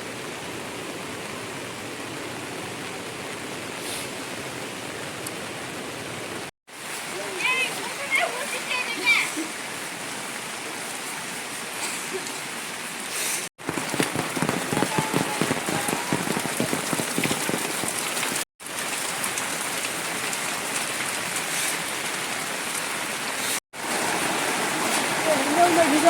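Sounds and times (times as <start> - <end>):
heavy rain pattering: 0.1 - 12.9, 13.6 - 26.0.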